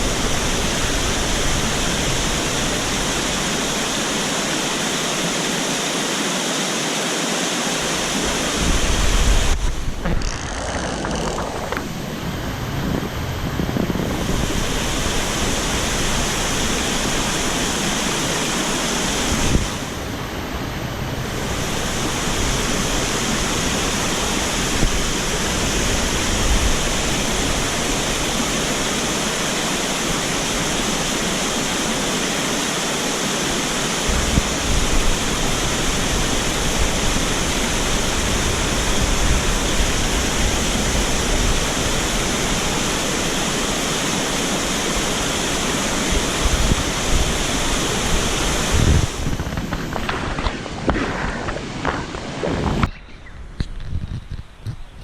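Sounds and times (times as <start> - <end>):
stream rushing over rocks: 0.0 - 20.1, 21.4 - 52.6.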